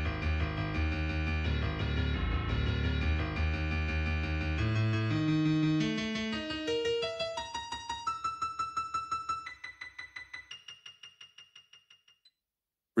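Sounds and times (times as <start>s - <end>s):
repeated electronic piano-like notes: 0.0s - 12.1s.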